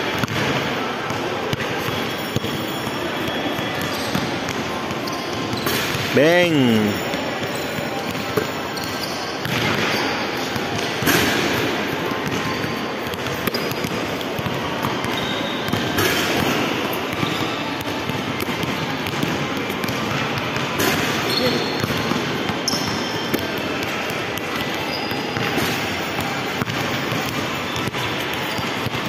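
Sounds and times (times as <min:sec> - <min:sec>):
shopping mall crowd din: 0:00.0 - 0:29.0
basketballs bouncing: 0:00.1 - 0:29.0.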